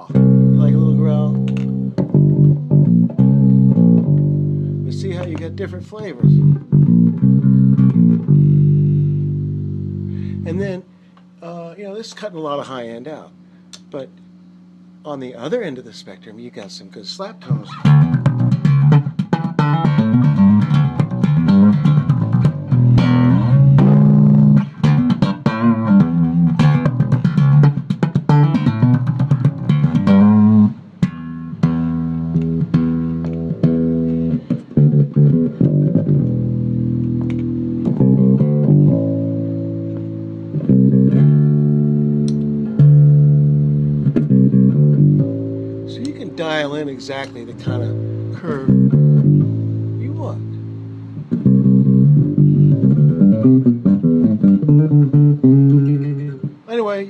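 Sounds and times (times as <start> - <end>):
slap bass guitar: 0.0 - 11.6, 17.3 - 56.8.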